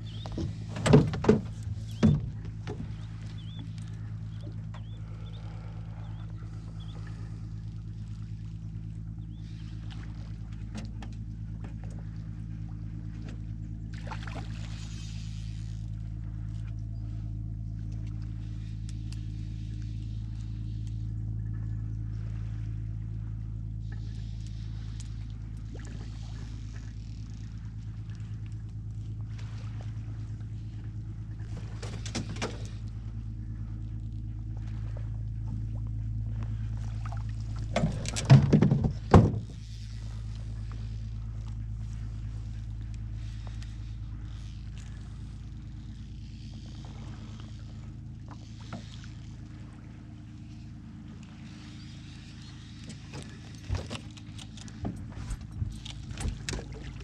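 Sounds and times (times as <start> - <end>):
boat motor droning: 0.0 - 57.0.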